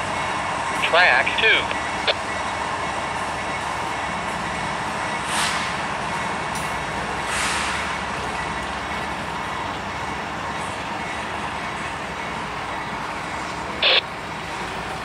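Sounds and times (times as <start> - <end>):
train wheels on rails: 1.7 - 15.0.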